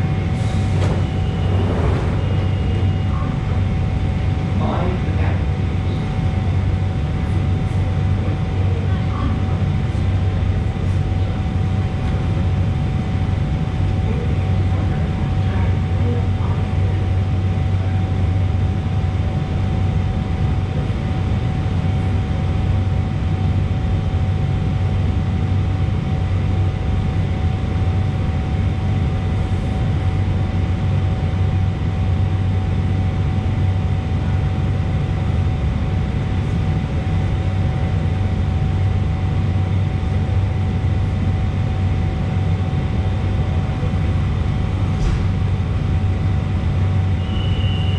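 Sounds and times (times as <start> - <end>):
low drone of station platform: 0.0 - 47.9.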